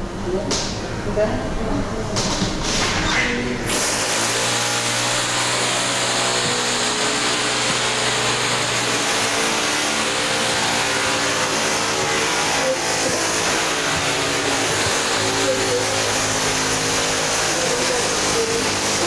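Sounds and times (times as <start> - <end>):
construction drill running: 2.6 - 19.0.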